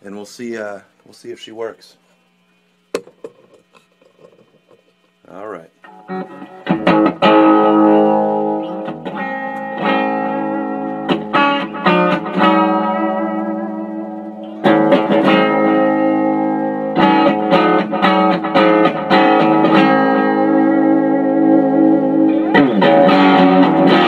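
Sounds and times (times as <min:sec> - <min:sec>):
distorted electric guitar chords: 0:04.5 - 0:24.0.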